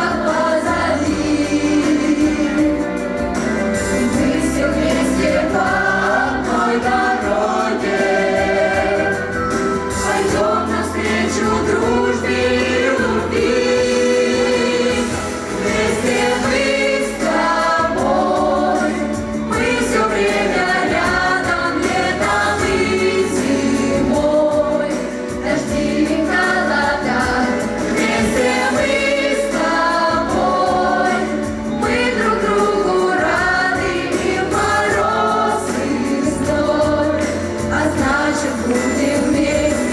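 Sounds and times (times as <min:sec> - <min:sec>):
instrumental accompaniment with bass: 0:00.0 - 0:39.9
vocal ensemble singing: 0:00.0 - 0:39.9.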